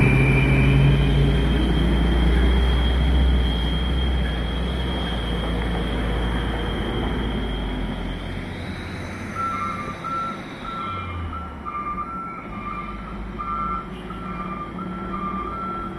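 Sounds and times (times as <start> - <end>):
truck reversing alarm beeping: 0.0 - 15.9.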